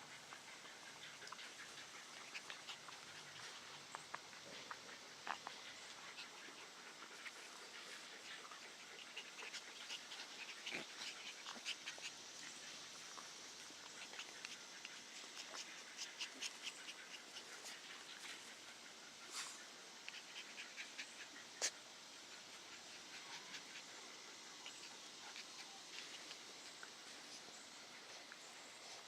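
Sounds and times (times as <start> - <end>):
puppies panting: 0.0 - 29.0.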